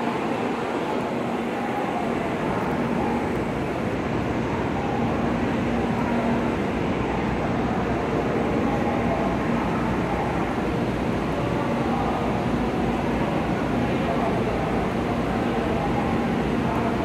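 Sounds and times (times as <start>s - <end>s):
train equipment hum and whir: 0.0s - 17.0s.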